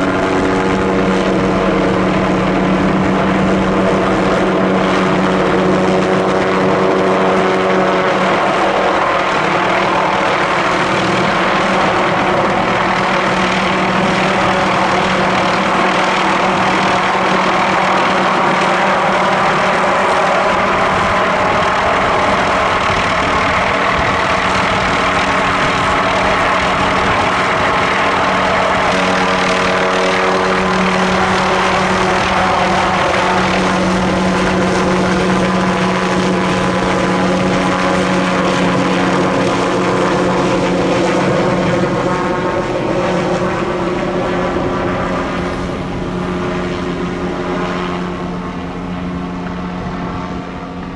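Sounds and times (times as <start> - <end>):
helicopter engine and rotors droning: 0.0 - 50.9.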